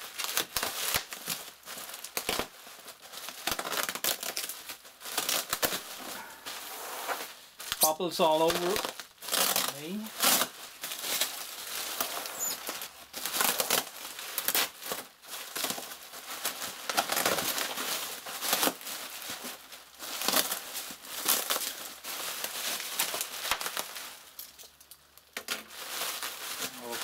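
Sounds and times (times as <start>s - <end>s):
bubble wrap crinkling: 0.0s - 27.0s.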